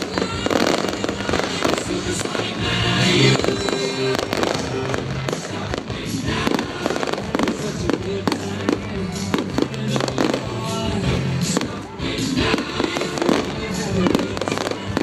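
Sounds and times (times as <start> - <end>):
fireworks bangs and crackles: 0.0 - 15.0
pop music playing: 0.0 - 15.0.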